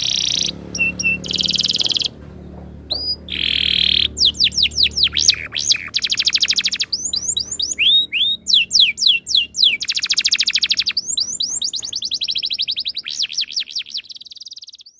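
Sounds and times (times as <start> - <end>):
canary singing with trills: 0.0 - 14.9.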